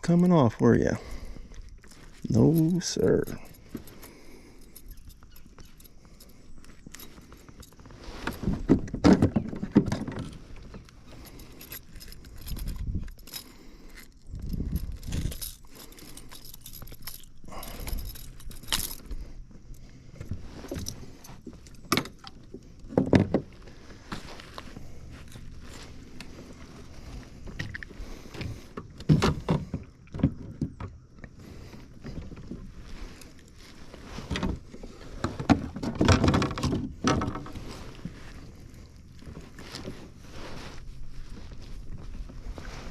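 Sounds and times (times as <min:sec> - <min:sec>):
fishing gear clattering: 0:00.1 - 0:42.9.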